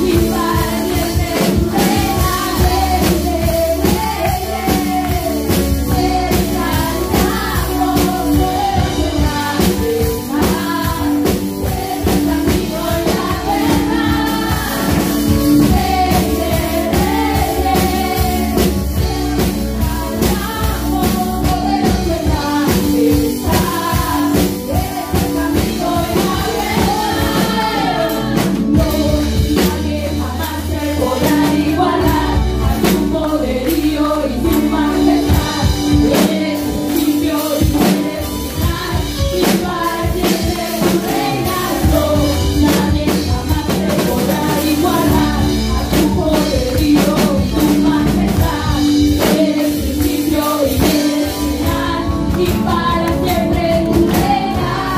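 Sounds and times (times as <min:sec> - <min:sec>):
drum kit steady beat: 0:00.0 - 0:54.9
keyboard: 0:00.0 - 0:54.9
women singing into microphones: 0:00.0 - 0:54.9.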